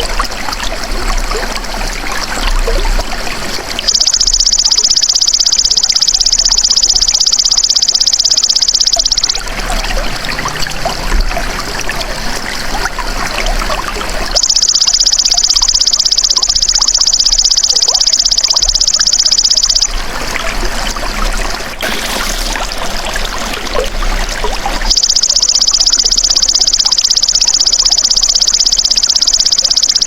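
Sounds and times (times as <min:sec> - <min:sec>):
trickle of flowing water: 0:00.0 - 0:30.0.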